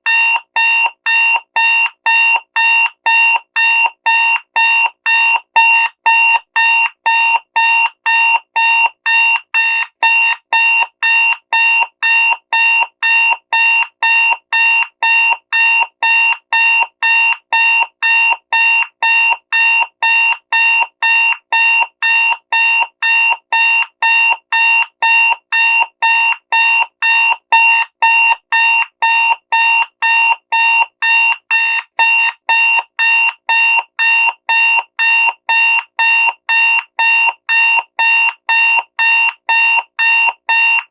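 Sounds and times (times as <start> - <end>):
digital alarm clock beeping: 0.1 - 40.9.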